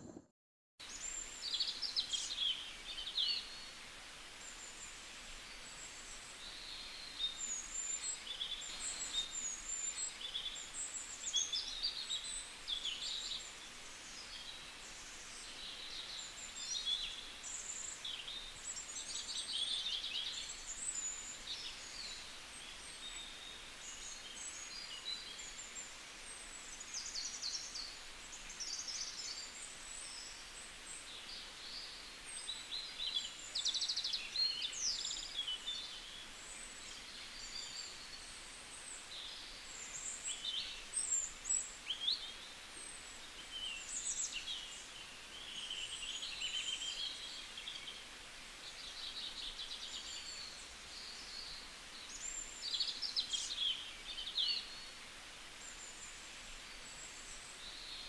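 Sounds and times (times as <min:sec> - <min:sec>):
faint background hiss: 0:00.0 - 0:58.0
small birds chirping and trilling: 0:05.6 - 0:58.0.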